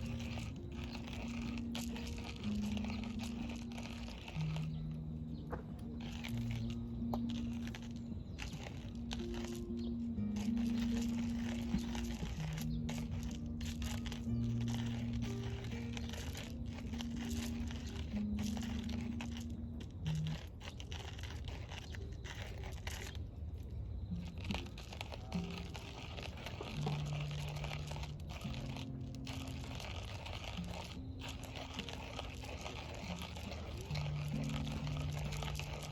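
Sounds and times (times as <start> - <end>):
wood fire crackling and popping: 0.0 - 23.2, 24.1 - 35.9.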